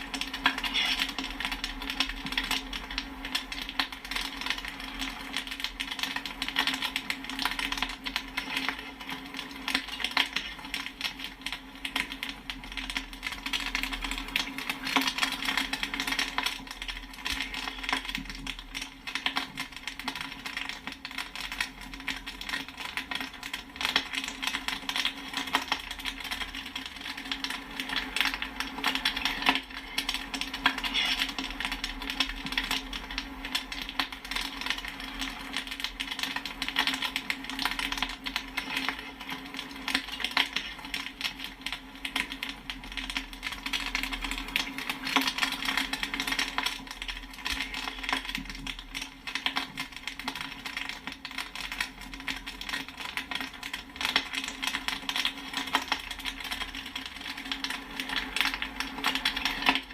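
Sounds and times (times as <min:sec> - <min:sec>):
popcorn popping: 0:00.0 - 0:59.9.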